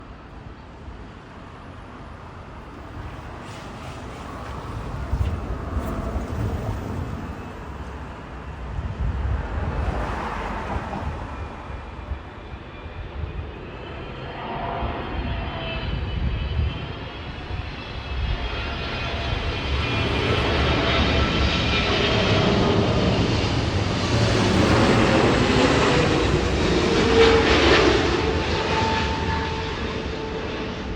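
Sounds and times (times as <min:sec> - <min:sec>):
jet engine high whine: 0:00.0 - 0:30.9
jet engine low rumble: 0:00.0 - 0:30.9.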